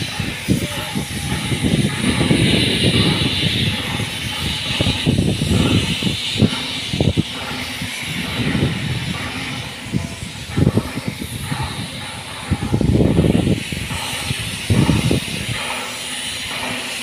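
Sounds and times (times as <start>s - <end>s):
wind buffeting microphone: 0.0s - 16.8s.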